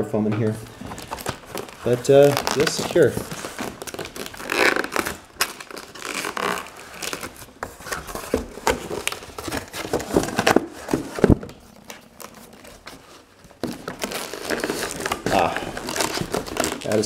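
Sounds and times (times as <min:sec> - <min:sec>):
packaging crinkling and scraping: 0:00.7 - 0:17.0.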